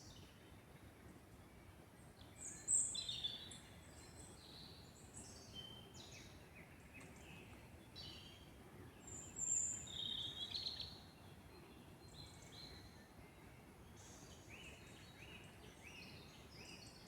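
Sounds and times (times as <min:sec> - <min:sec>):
songbirds singing: 0:02.2 - 0:17.0.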